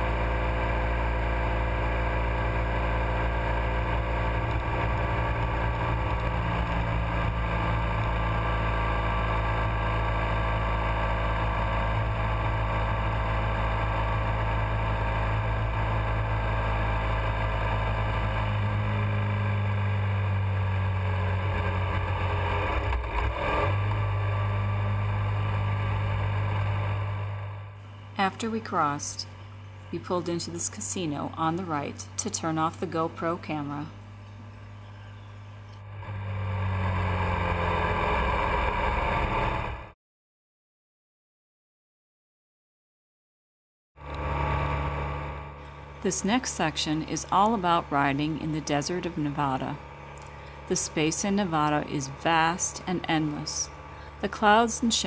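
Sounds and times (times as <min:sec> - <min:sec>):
motorcycle engine cruising: 0:00.0 - 0:40.0, 0:44.0 - 0:55.0.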